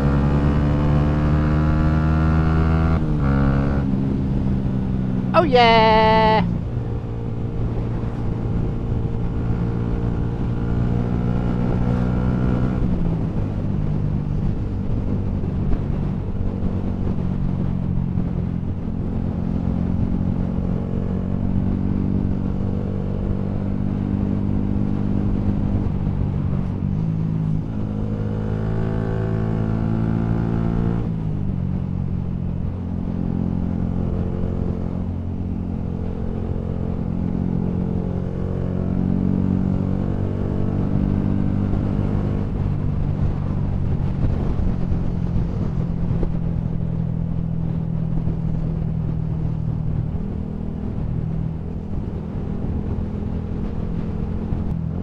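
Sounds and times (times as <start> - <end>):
wind rumble: 6.4 - 55.0.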